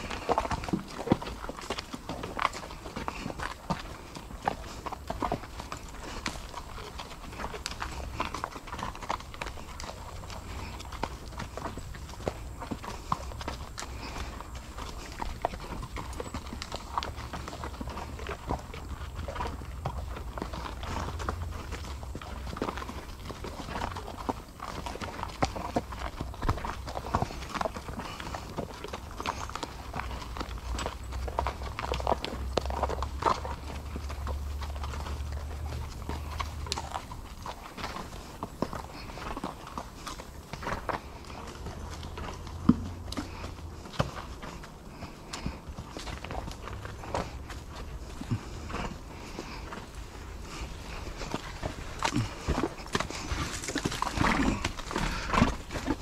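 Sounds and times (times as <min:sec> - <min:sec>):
hoofbeats on dirt trail: 0:00.0 - 0:56.0.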